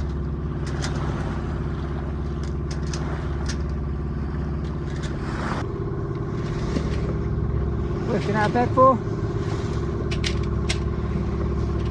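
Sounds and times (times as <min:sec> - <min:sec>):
boat engine humming: 0:00.0 - 0:11.9.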